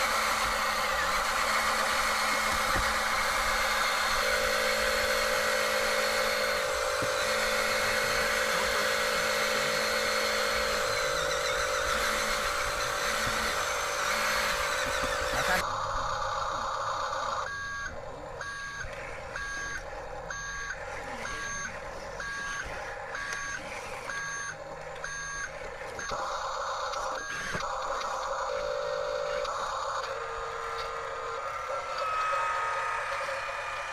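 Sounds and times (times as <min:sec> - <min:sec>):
small electric motors whirring: 0:00.0 - 0:33.9
electronic reversing beep: 0:00.1 - 0:33.9.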